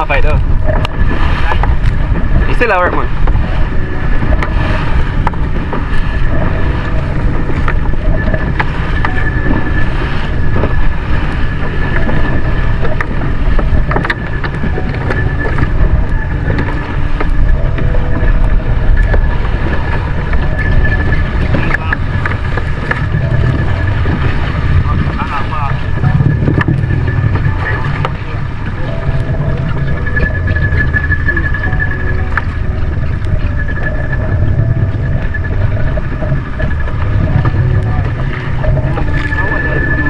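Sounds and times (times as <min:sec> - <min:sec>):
boat engine with thin whine: 0:00.0 - 0:40.0
wind buffeting microphone: 0:00.0 - 0:40.0.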